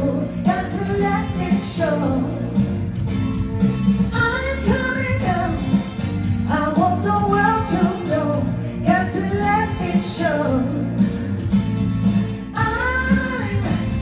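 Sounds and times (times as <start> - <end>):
high-voiced singer: 0.0 - 3.3, 4.0 - 11.6, 12.4 - 14.0
live band with beat and bass: 0.0 - 14.0.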